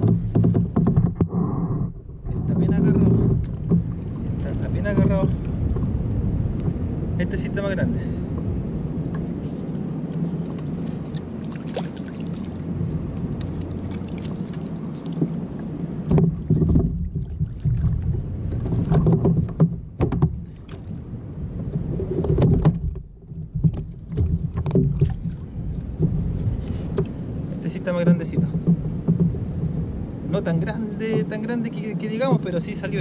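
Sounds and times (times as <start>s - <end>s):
knocks and thumps against kayak: 0.0s - 6.9s, 10.2s - 31.4s, 32.2s - 33.0s
water lapping: 0.0s - 8.3s, 9.1s - 33.0s
wind: 0.0s - 33.0s.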